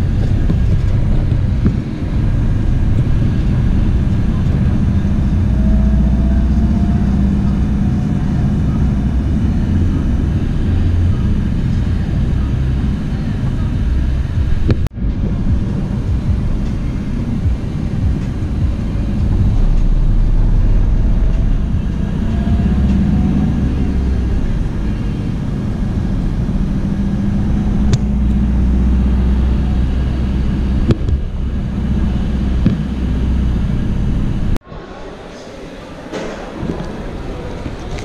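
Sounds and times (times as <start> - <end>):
bus engine rumble: 0.0 - 38.0
road noise: 0.0 - 38.0.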